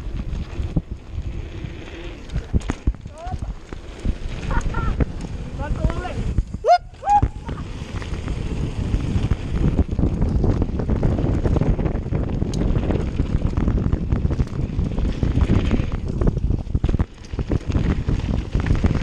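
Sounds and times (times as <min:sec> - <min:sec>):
tyres rumbling on gravel: 0:00.0 - 0:06.6, 0:07.3 - 0:19.0
bike clicks and rattles: 0:00.0 - 0:19.0
wind buffeting microphone: 0:00.0 - 0:19.0.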